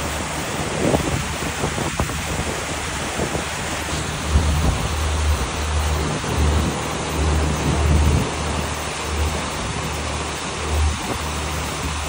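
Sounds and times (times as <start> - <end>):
wind and water rushing: 0.0 - 12.0
wind buffeting microphone: 0.0 - 12.0.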